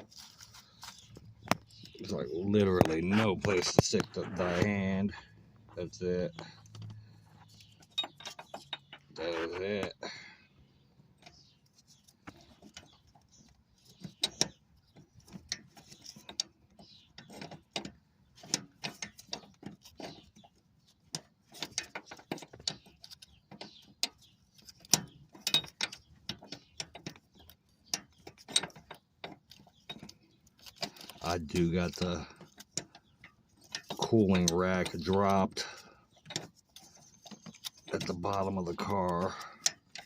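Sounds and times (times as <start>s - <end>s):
metal hand tools clicking and clanking: 6.3s - 9.8s, 11.2s - 40.0s.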